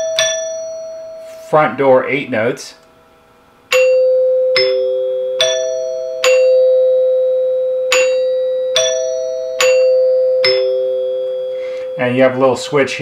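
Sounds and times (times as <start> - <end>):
door chime ringing: 0.0 - 2.1, 3.7 - 13.0.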